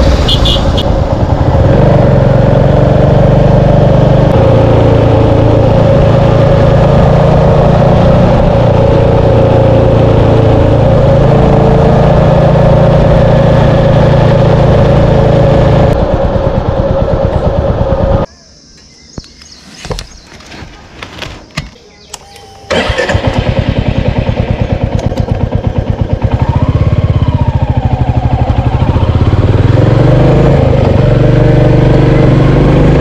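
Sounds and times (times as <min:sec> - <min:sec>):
motorcycle engine running: 0:00.0 - 0:18.3, 0:22.4 - 0:33.0.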